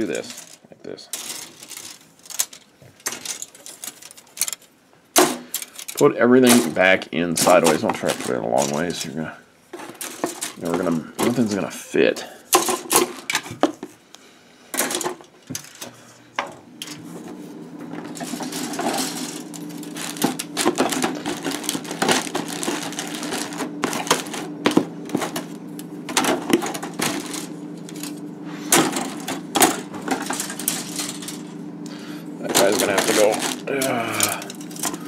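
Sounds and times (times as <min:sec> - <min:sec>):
plastic pieces clattering: 0:00.0 - 0:11.7, 0:12.5 - 0:14.0, 0:14.7 - 0:17.0, 0:17.9 - 0:35.0
steady low hum: 0:00.0 - 0:35.0.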